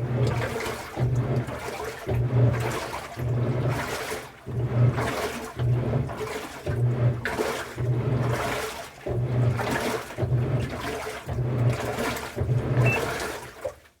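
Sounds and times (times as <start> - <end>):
pulsing washing machine motor hum: 0.0 - 13.7
water sloshing in drum: 0.0 - 14.0.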